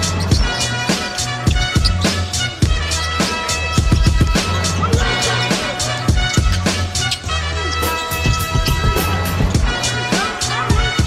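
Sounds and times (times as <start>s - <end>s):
upbeat pop song: 0.0s - 11.0s.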